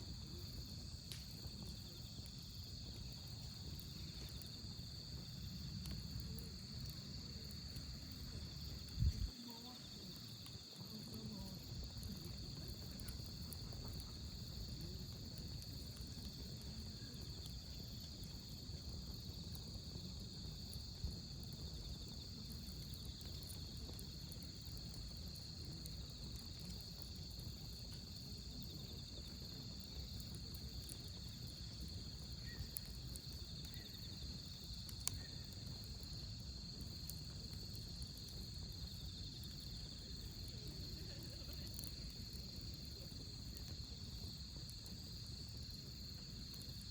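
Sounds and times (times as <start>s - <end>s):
crickets chirping: 0.0s - 46.9s
firewood popping: 0.0s - 46.9s
wood fire hissing: 0.0s - 46.9s.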